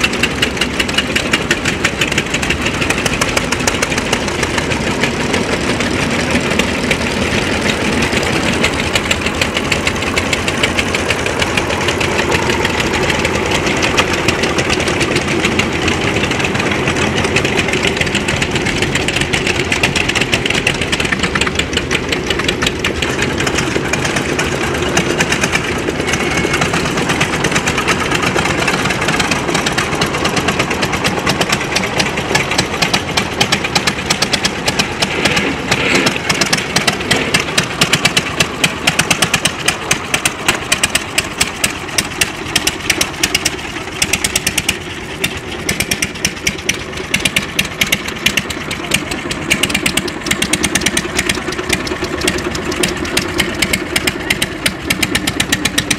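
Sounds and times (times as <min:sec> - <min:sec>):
tractor diesel engines chugging: 0:00.0 - 0:55.9.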